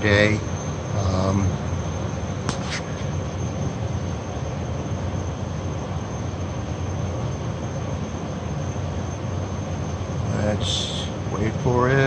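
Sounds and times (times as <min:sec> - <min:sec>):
air conditioner running: 0:00.0 - 0:12.0
boiler burner firing: 0:00.0 - 0:12.0.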